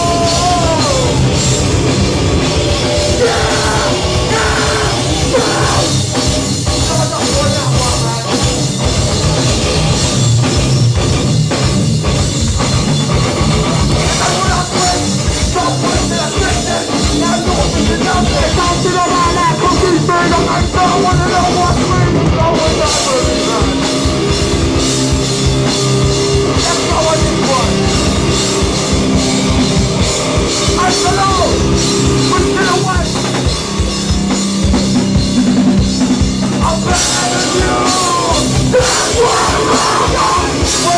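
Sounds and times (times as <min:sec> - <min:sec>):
hardcore band playing live: 0:00.0 - 0:40.9
long held guitar chords: 0:00.0 - 0:40.9.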